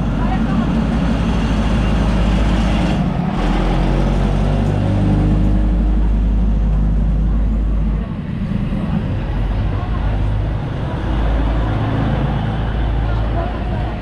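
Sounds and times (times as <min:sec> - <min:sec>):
diesel train engine rumbling: 0:00.0 - 0:14.0.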